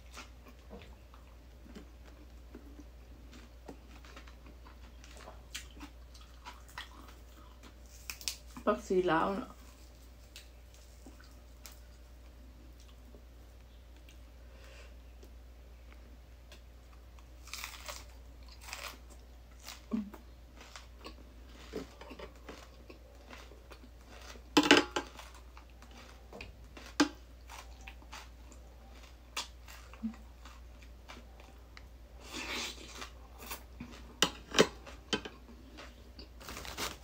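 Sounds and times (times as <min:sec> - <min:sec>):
chewing crisp raw vegetables: 0:00.0 - 0:08.6, 0:15.2 - 0:36.9.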